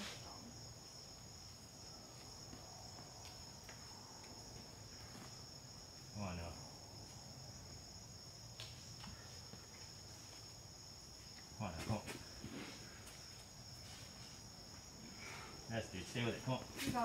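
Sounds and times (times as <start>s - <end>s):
insects buzzing in trees: 0.0s - 17.0s.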